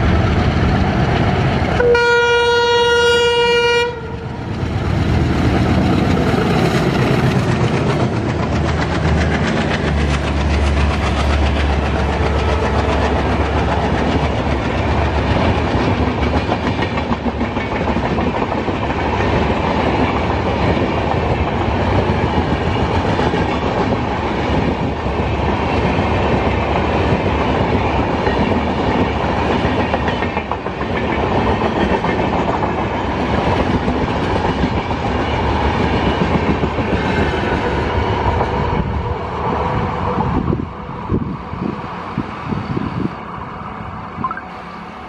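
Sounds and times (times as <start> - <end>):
train rushing past: 0.0 - 45.0.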